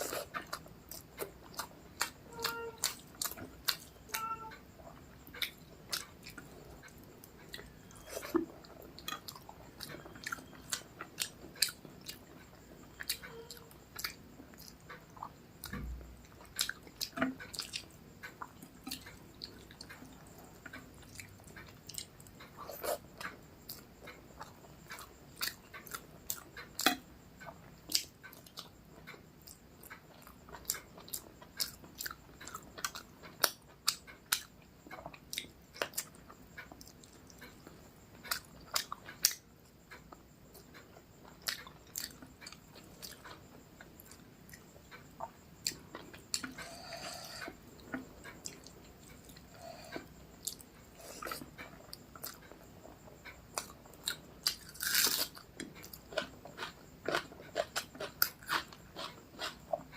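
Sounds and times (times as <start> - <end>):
person chewing: 0.0 - 27.0, 29.4 - 39.4, 40.8 - 59.9.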